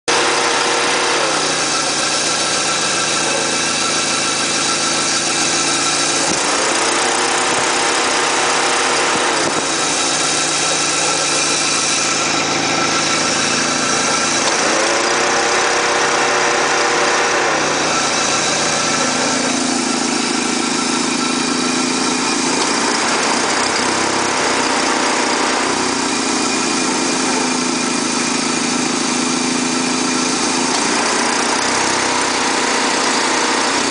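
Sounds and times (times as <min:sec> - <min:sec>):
car engine idling: 0:00.1 - 0:33.9
whirring tone: 0:00.1 - 0:33.9.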